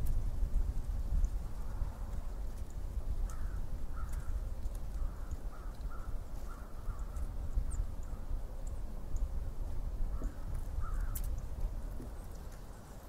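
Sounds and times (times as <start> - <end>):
distant bird calls: 1.2 - 13.0.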